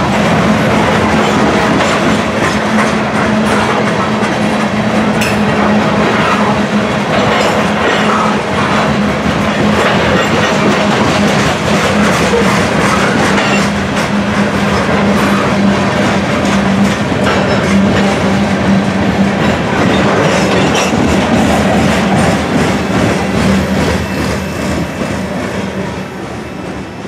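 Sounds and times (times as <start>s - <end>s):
wheels clicking over rail joints: 0.0s - 25.4s
steel wheels rumbling on rail: 0.0s - 27.0s.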